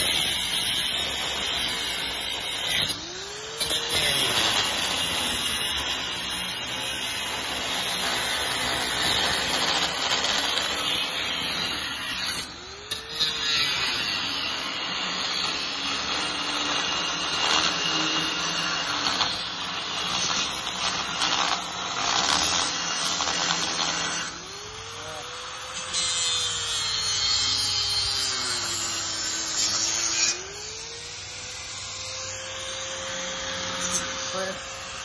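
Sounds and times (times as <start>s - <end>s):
angle grinder grinding steel: 0.0s - 35.0s.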